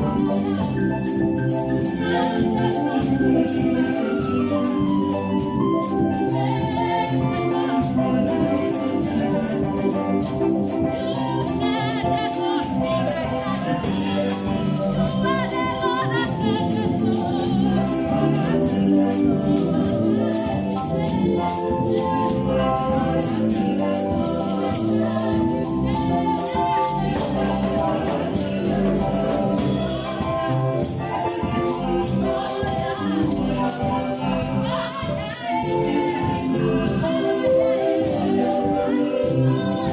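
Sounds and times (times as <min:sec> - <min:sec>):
choir singing gospel: 0:00.0 - 0:39.9
instrumental backing: 0:00.0 - 0:39.9
shaker rhythm: 0:00.0 - 0:39.9.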